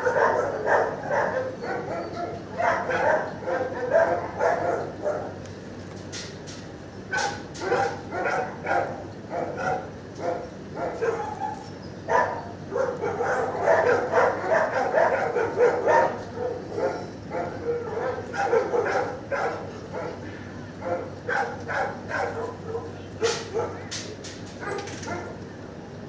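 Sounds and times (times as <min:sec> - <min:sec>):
dogs barking: 0:00.0 - 0:05.5, 0:07.1 - 0:25.4.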